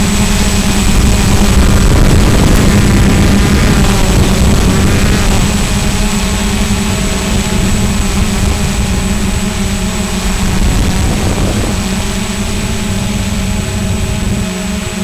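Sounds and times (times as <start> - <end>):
drone propellers buzzing: 0.0 - 15.0
low wind rumble: 0.0 - 15.0.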